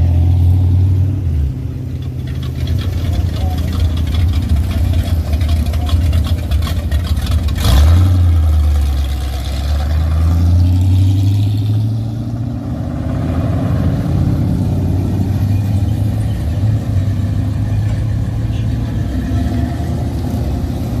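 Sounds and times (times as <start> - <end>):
car engine idling and accelerating: 0.0 - 21.0.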